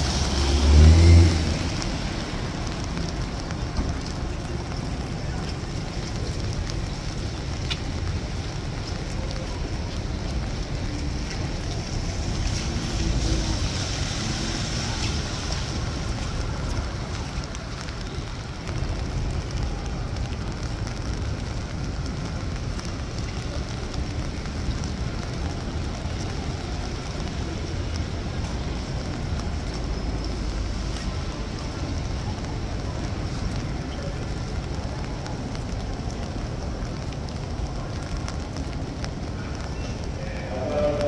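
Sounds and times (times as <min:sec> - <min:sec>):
rain hissing: 0:00.0 - 0:41.0
faint drip-like ticks: 0:00.2 - 0:40.4.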